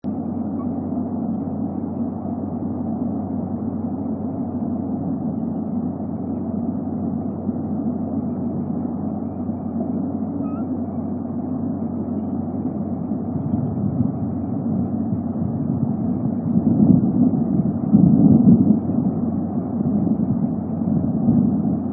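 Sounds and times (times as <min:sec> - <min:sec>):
low rumbling background noise: 0:00.0 - 0:21.9.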